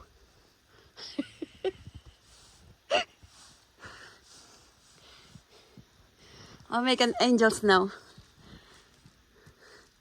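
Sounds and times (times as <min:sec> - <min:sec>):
soft rustling: 0:01.4 - 0:10.0.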